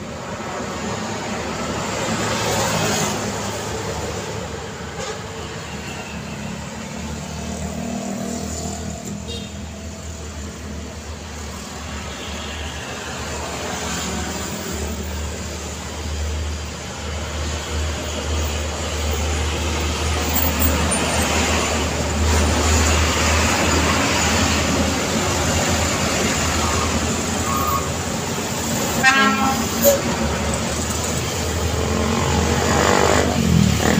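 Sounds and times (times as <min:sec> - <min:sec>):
cars and motorcycles passing: 0:00.0 - 0:33.9.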